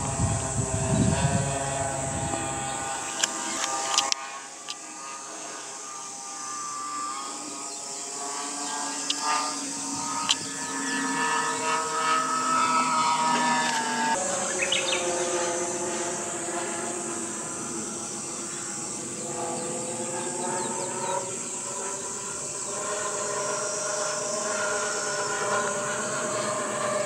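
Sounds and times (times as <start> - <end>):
model airplane engines droning: 0.0 - 27.0.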